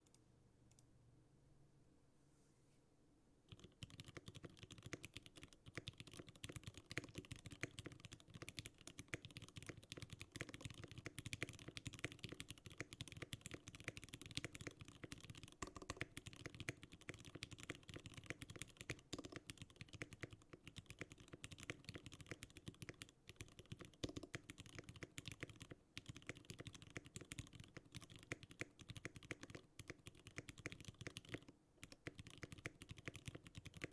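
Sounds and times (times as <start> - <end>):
mechanical keyboard typing: 3.5 - 33.9.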